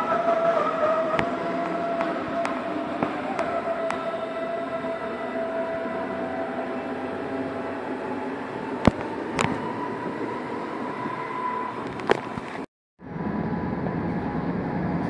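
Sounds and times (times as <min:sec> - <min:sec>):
electric train running on rails: 0:00.0 - 0:15.0.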